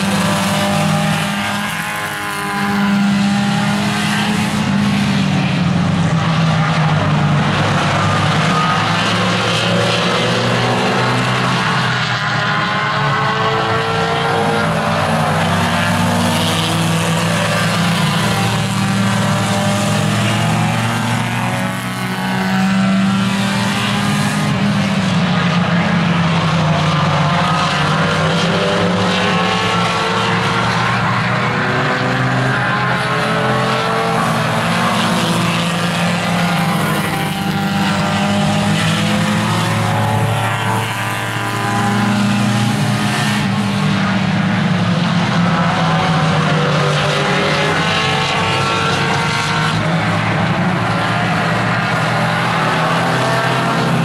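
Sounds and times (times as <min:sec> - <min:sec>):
race car engines: 0:00.0 - 0:54.0.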